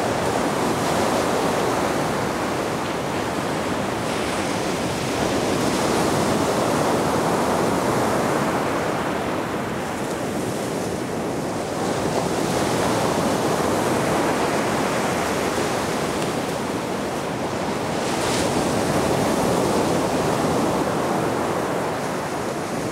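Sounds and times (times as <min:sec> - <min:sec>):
waves breaking on shore: 0:00.0 - 0:22.9.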